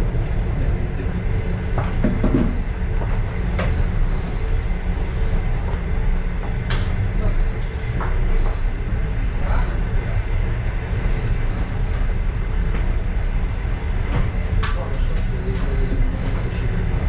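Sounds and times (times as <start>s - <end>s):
faint hum: 0.0s - 17.0s
railway car rumbling on track: 0.0s - 17.0s.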